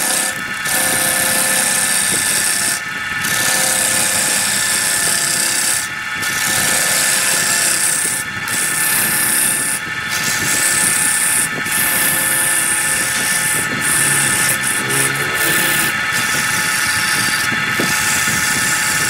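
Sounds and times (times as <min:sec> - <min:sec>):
gouge cutting wood shavings: 0:00.0 - 0:19.0
wood lathe whine: 0:00.0 - 0:19.0.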